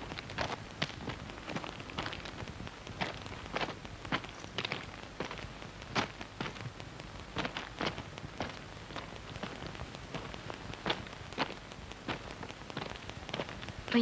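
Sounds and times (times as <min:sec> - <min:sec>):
sharp crackles and clicks: 0:00.0 - 0:14.0
steady hiss: 0:00.0 - 0:14.0.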